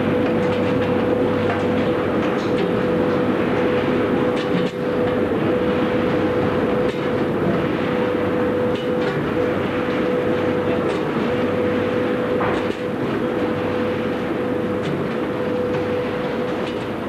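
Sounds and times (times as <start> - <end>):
conveyors and machinery running: 0.0 - 17.0.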